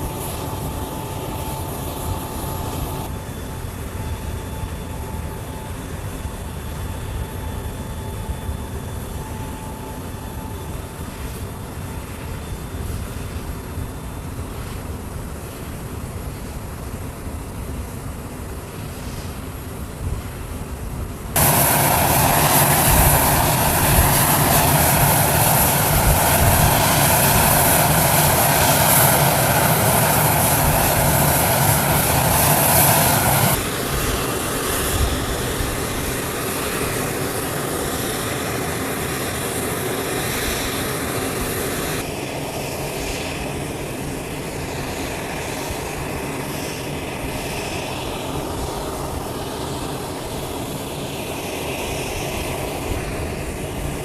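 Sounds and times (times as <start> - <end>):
aircraft engine roar: 0.0 - 54.0.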